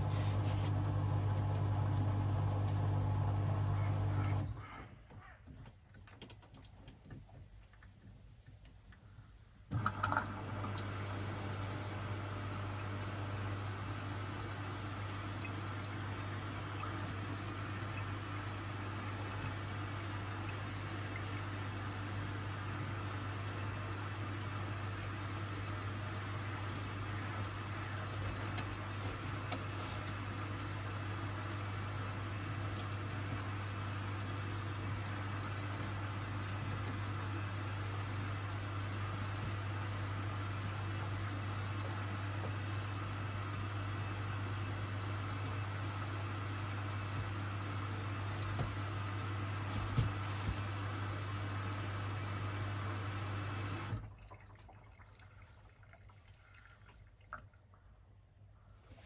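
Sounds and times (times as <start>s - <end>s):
water rushing in washing machine: 0.0s - 4.7s, 9.7s - 57.7s
washing machine low hum: 0.0s - 4.8s, 9.7s - 57.5s.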